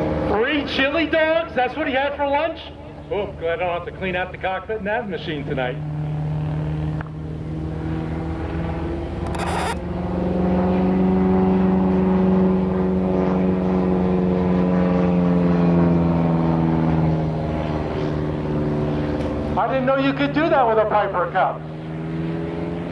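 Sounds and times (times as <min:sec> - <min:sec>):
propeller plane engine overhead: 0:00.0 - 0:22.9.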